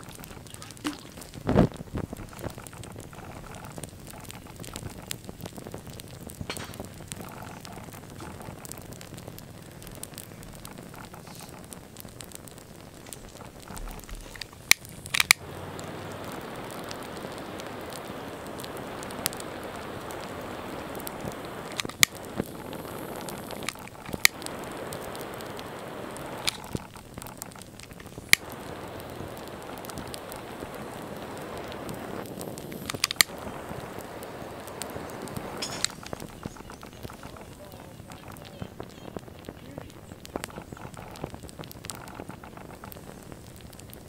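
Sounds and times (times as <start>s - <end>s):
flames hissing and crackling: 0.0s - 44.0s.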